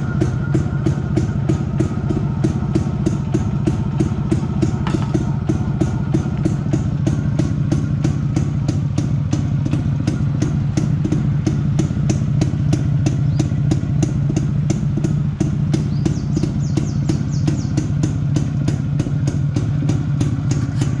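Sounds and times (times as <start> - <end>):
two-stroke engine idling: 0.0 - 21.0.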